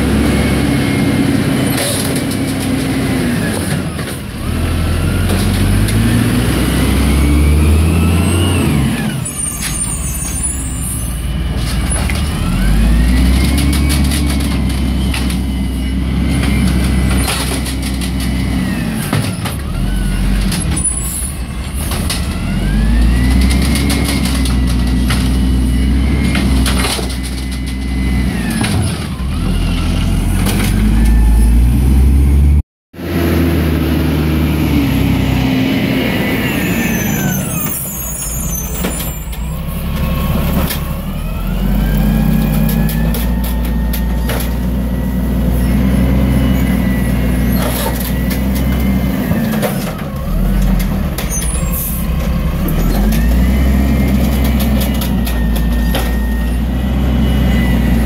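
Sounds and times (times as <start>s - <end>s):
garbage truck engine revving: 0.0s - 58.0s.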